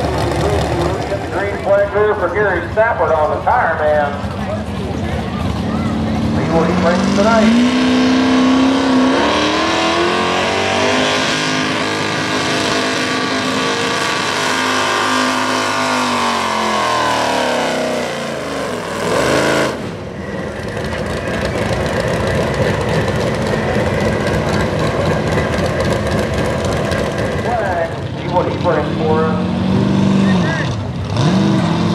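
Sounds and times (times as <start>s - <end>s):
engine straining at full throttle: 0.0s - 31.9s.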